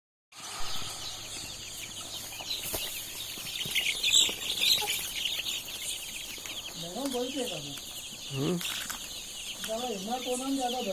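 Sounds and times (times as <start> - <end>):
chickens calling: 0.4 - 10.9.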